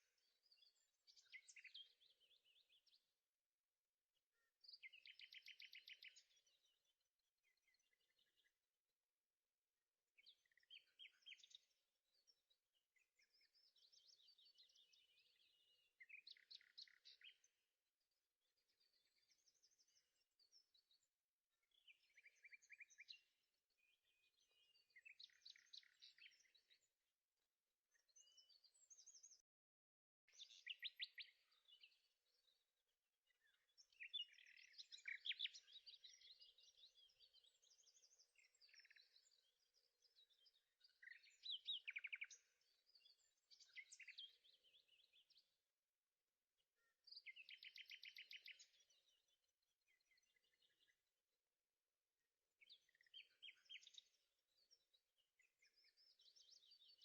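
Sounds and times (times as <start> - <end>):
faint birdsong chirps and trills: 0.0 - 57.0.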